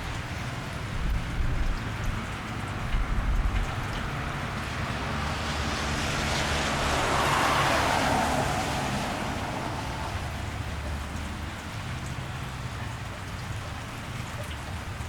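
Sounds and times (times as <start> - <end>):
car tyres hissing on wet street: 0.0 - 14.4
steady rain: 0.0 - 15.0.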